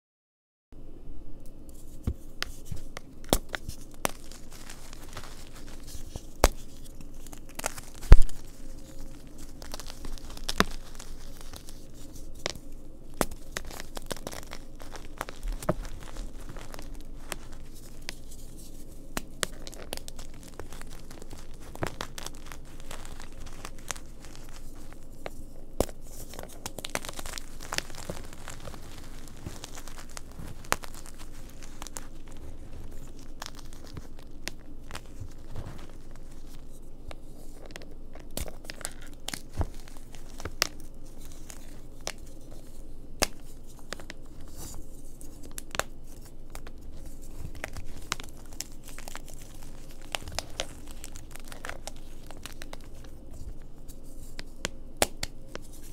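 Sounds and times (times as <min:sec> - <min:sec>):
chalk crumbling between fingers: 0:01.6 - 0:55.9
chalk chunks snapping: 0:01.7 - 0:55.9.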